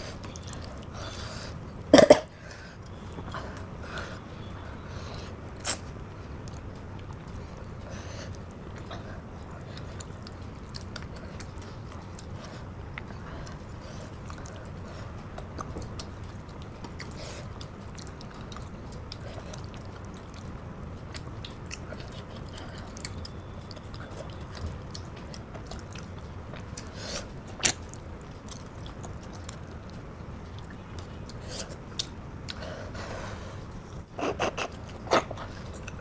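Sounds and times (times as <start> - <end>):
low background hum: 0.0 - 36.0
person chewing: 0.1 - 1.2, 5.2 - 32.6, 33.6 - 36.0.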